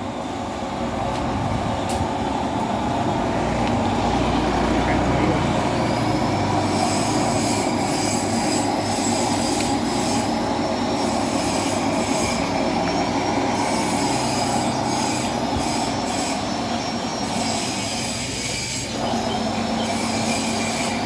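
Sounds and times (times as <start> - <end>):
lathe mechanical hum: 0.0 - 21.0.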